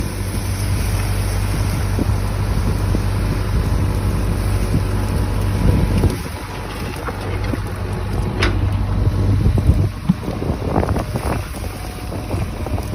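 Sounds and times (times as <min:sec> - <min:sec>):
boat engine running: 0:00.0 - 0:12.9
wind buffeting microphone: 0:00.0 - 0:12.9.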